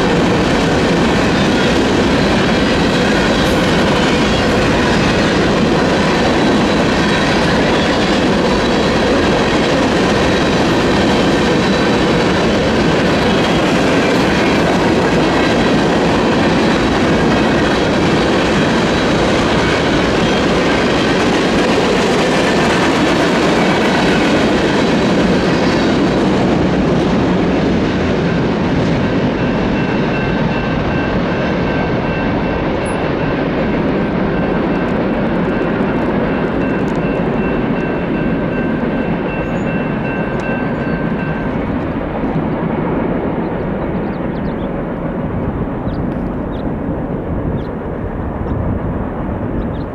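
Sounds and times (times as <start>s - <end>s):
train wheels clacking on rails: 0.0s - 49.9s.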